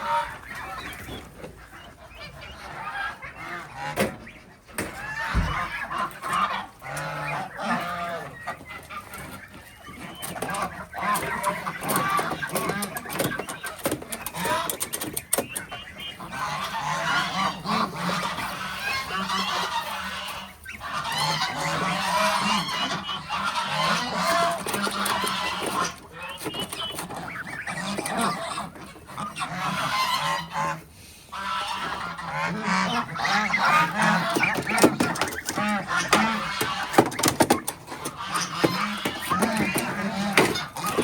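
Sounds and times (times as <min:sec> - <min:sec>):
geese honking: 0:00.0 - 0:41.0.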